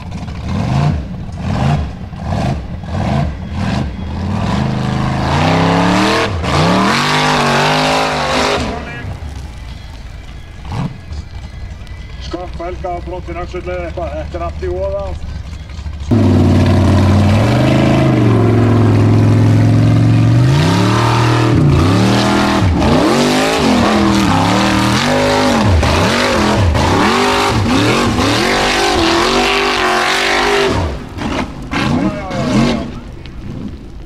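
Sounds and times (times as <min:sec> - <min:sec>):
buggy engine revving: 0:00.0 - 0:34.0
wheels spinning in dirt: 0:00.0 - 0:34.0.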